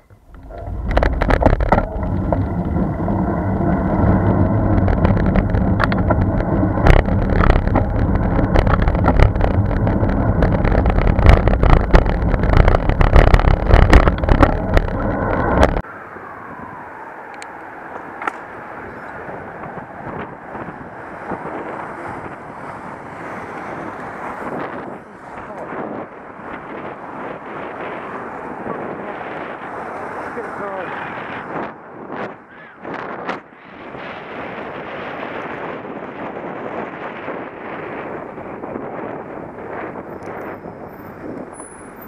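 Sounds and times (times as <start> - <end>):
bicycle road rattle: 0.0 - 15.9, 17.8 - 42.0
wind buffeting microphone: 0.0 - 42.0.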